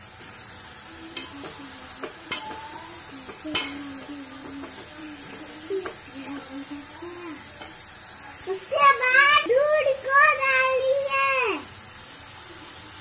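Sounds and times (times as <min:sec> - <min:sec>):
carrots sizzling in pot: 0:00.0 - 0:13.0.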